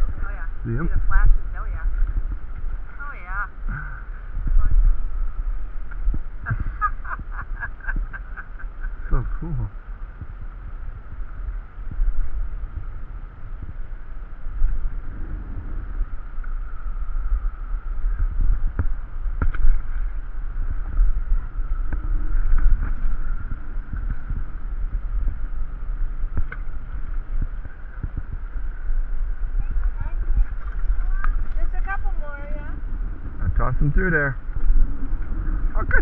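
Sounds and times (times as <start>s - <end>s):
faint high hum: 0.0s - 36.0s
wind buffeting microphone: 0.0s - 36.0s.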